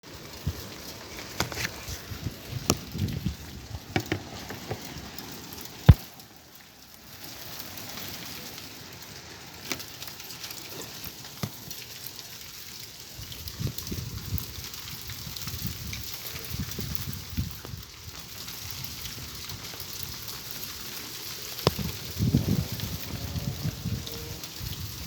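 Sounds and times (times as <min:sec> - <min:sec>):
hiss of falling rain: 0:00.0 - 0:25.0
hailstones striking hard surfaces: 0:00.1 - 0:25.0.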